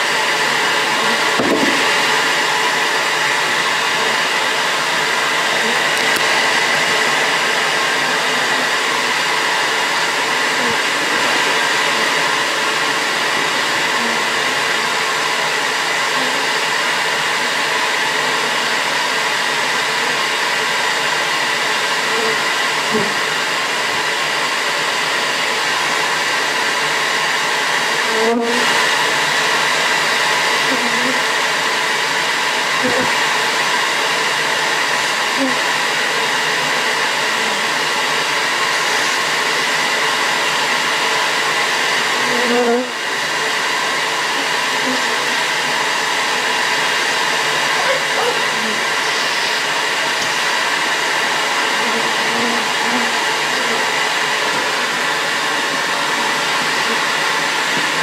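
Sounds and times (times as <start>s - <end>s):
vacuum motor running: 0.0s - 58.0s.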